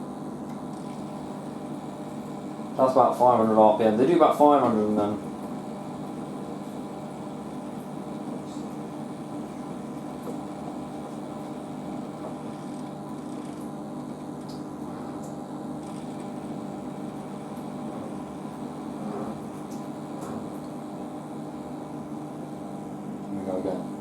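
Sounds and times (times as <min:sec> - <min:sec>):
washing machine drum spinning: 0:00.0 - 0:22.4.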